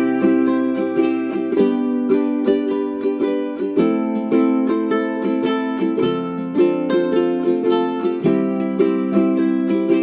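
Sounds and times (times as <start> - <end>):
plucked ukulele: 0.0 - 10.0.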